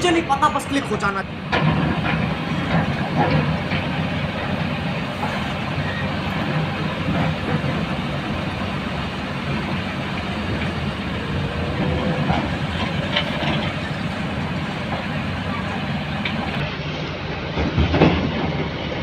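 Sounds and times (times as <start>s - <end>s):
heavy diesel engines running: 0.0s - 19.0s.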